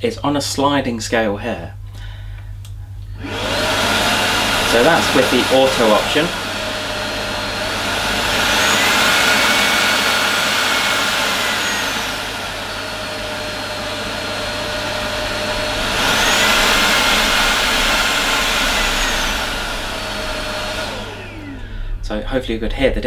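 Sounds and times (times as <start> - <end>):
vacuum cleaner motor whine: 3.0 - 22.6.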